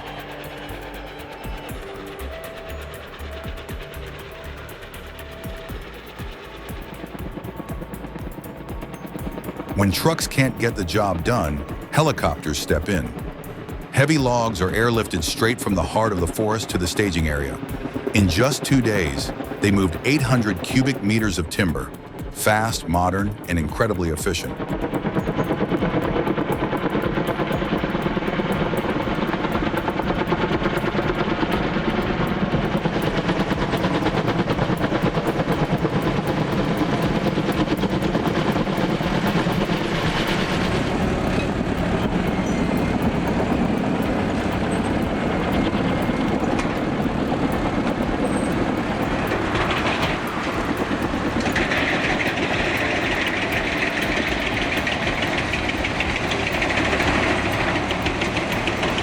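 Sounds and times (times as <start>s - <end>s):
heavy engine pulsing: 0.0s - 59.0s
higher whine: 0.0s - 59.0s.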